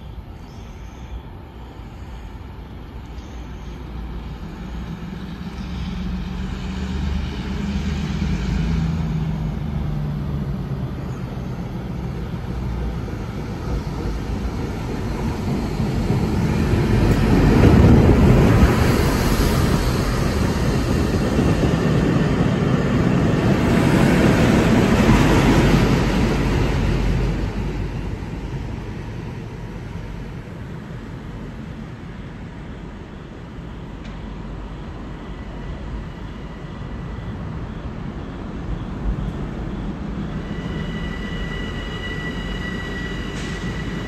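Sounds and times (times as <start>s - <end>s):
diesel locomotive engine drone: 0.0s - 44.0s
train passing rumble: 0.0s - 44.0s.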